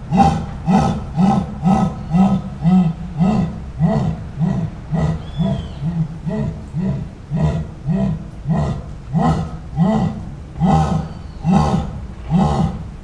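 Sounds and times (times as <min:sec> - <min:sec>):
jaguar rasping grunts: 0:00.0 - 0:13.0.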